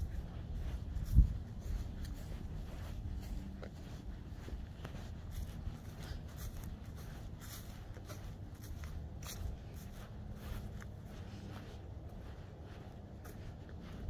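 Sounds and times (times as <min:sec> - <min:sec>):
footsteps on grass: 0:00.0 - 0:14.0.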